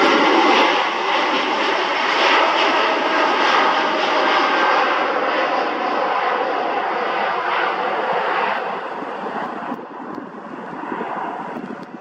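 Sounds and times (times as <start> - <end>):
faint engine whine: 0.0 - 12.0
jet engines roaring: 0.0 - 12.0.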